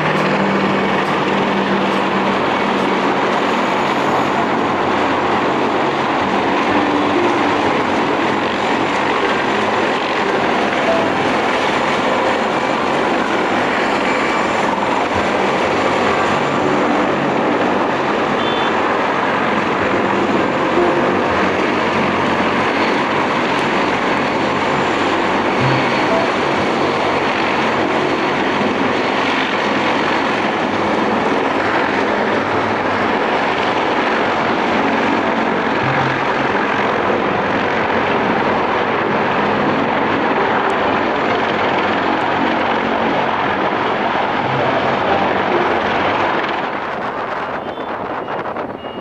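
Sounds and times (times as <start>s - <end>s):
helicopter engines and rotor: 0.0s - 48.8s.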